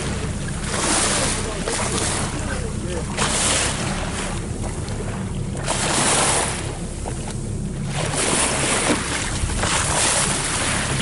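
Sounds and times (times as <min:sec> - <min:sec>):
boat engine humming: 0:00.0 - 0:11.0
sea water rushing along hull: 0:00.0 - 0:11.0.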